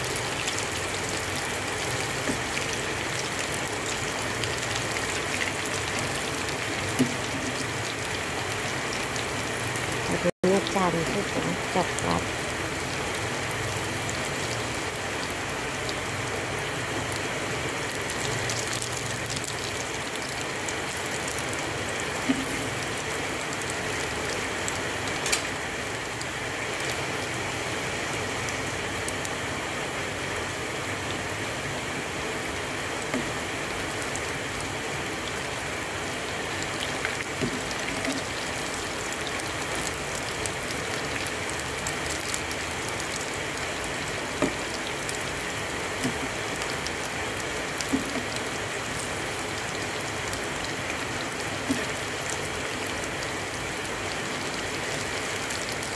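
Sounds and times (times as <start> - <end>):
hot oil sizzling: 0.0 - 55.9.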